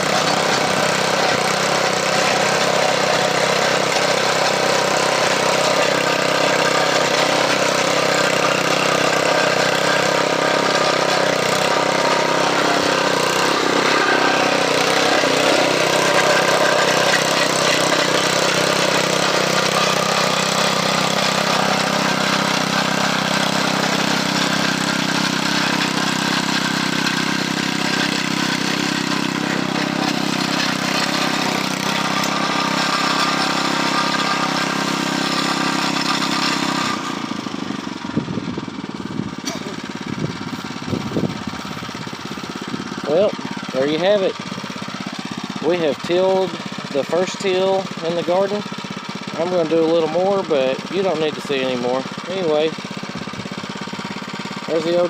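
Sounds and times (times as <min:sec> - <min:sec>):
tiller gasoline engine running: 0:00.0 - 0:55.0.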